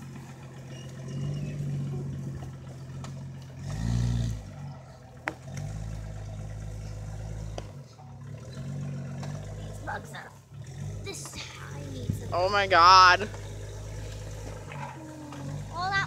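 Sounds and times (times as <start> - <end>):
car engine pulling at low speed: 0.0 - 16.0
engine rev: 0.0 - 16.0.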